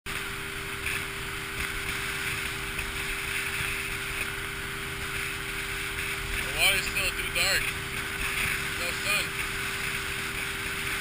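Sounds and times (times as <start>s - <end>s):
motorboat engine hum: 0.1s - 11.0s
wind and water rushing: 0.1s - 11.0s.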